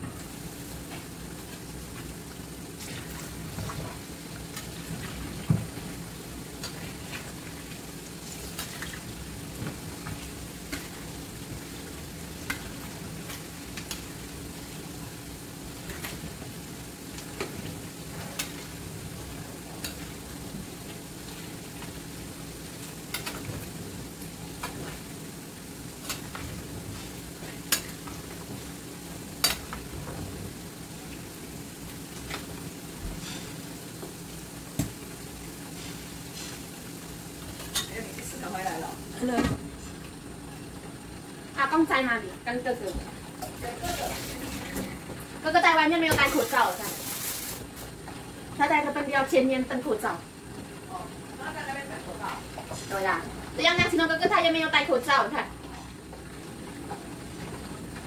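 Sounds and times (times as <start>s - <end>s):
chicken fat sizzling in frying pan: 0.0s - 39.4s, 40.1s - 58.0s.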